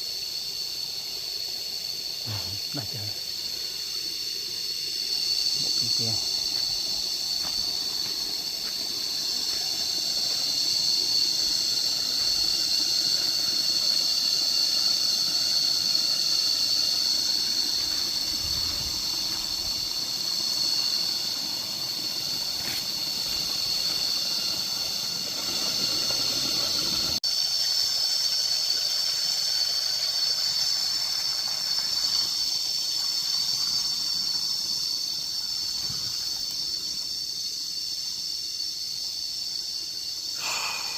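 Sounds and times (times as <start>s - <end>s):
cicadas singing: 0.0s - 40.9s.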